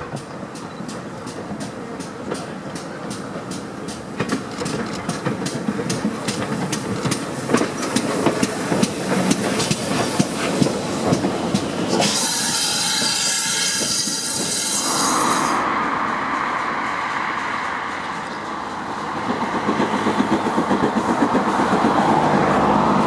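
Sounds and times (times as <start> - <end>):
train wheels clicking over rail joints: 0.0 - 23.0.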